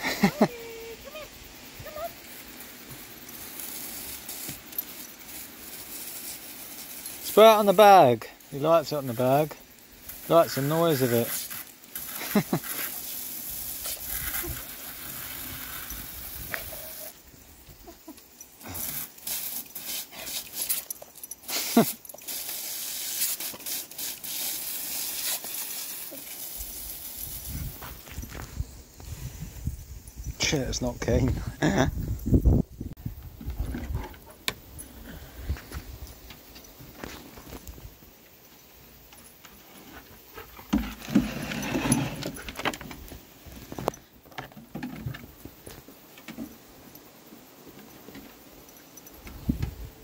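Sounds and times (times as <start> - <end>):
hose spraying water: 0.0 - 31.9, 34.5 - 44.2.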